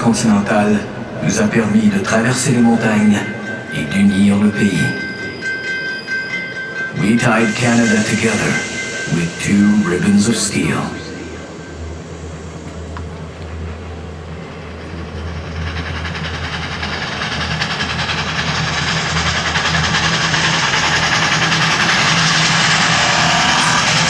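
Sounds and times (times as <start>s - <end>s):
train running on rails: 0.0s - 24.0s.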